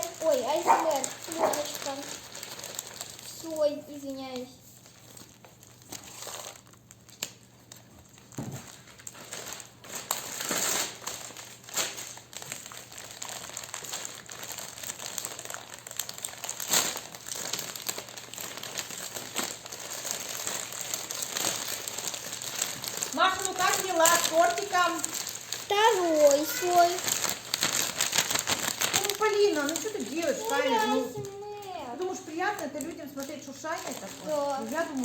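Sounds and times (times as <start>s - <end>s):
wrapping paper crinkling: 0.0s - 35.0s.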